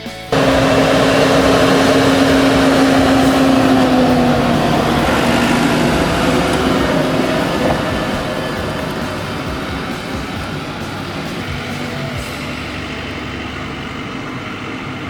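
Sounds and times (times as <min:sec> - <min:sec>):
tractor engine whining: 0:00.0 - 0:15.0.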